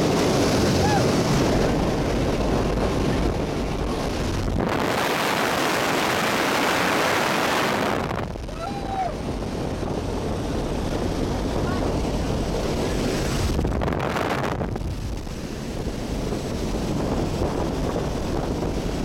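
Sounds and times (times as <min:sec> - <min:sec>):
plane engine running: 0:00.0 - 0:19.0
wind rushing: 0:00.0 - 0:19.0.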